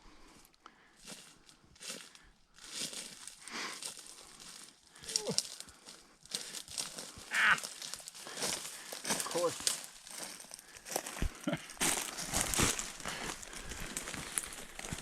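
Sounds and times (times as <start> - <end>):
footsteps crunching on dry path: 0.9 - 15.0.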